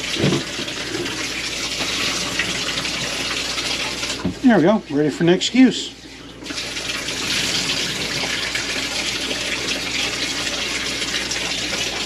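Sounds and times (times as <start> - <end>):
shower water splashing: 0.0 - 12.0.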